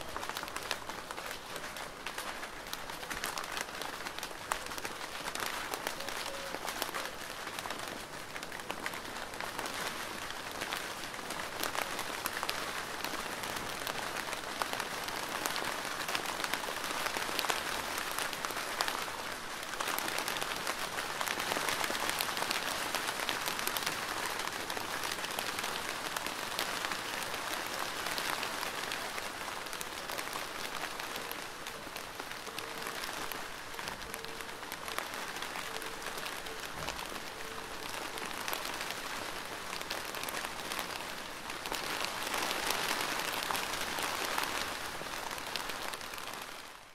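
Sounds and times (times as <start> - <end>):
rain drumming on plastic roof: 0.0 - 46.9.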